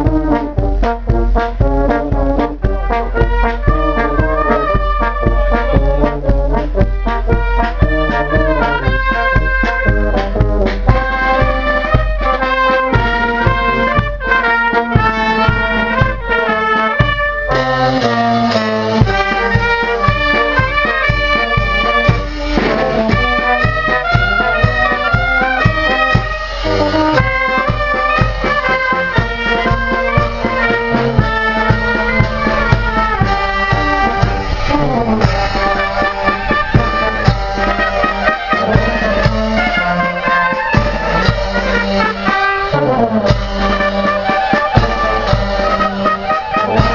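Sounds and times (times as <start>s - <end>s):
bass drum beat: 0.0s - 46.9s
marching band playing: 0.0s - 46.9s.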